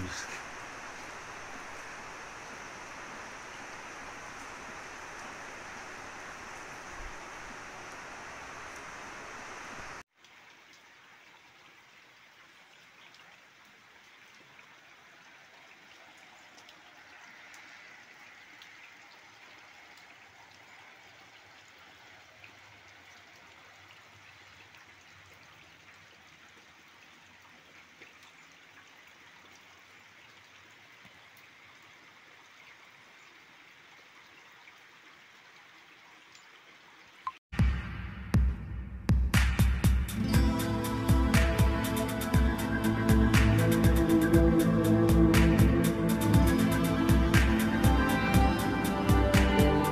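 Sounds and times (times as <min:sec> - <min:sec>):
steady rain falling: 0:00.0 - 0:37.4, 0:39.4 - 0:49.9.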